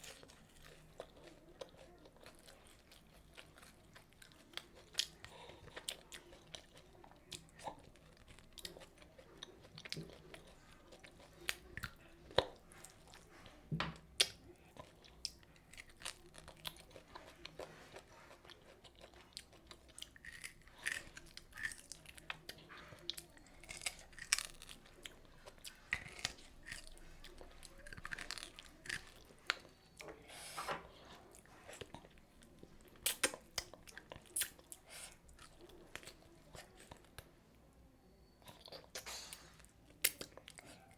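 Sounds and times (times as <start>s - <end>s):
person chewing food: 0.0s - 37.3s, 38.2s - 40.9s.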